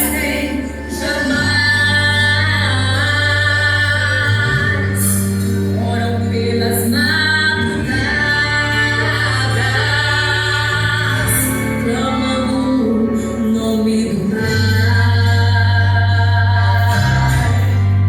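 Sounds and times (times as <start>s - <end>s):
group singing a gospel hymn: 0.0s - 13.4s, 14.0s - 18.0s
instrumental backing with held bass: 0.0s - 18.0s.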